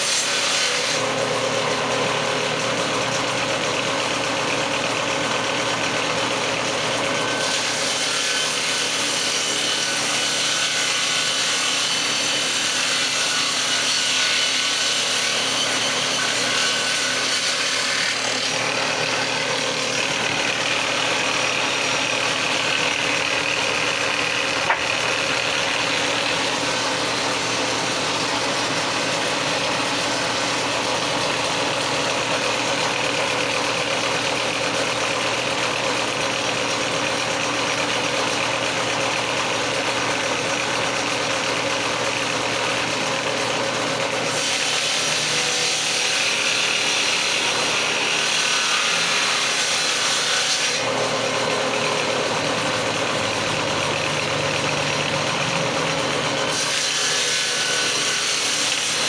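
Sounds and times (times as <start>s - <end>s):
power tool cutting wood: 0.0s - 59.0s.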